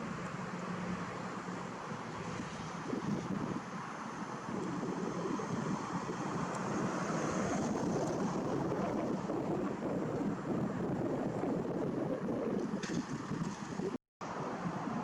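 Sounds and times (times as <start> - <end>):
wind buffeting microphone: 2.3 - 15.0.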